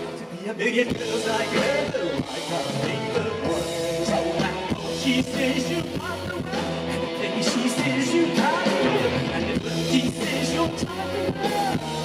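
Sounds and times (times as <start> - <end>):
live rock band playing: 0.0 - 12.0
man singing: 0.0 - 12.0.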